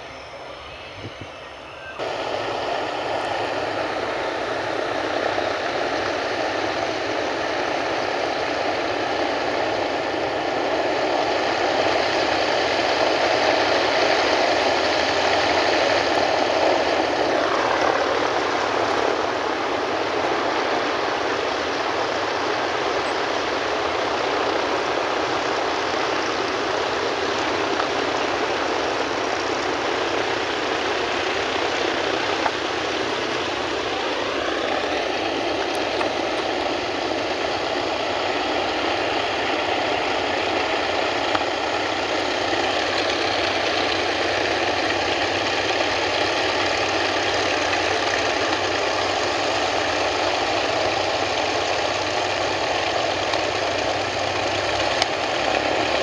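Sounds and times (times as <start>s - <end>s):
propeller aircraft engines running: 0.0s - 56.0s.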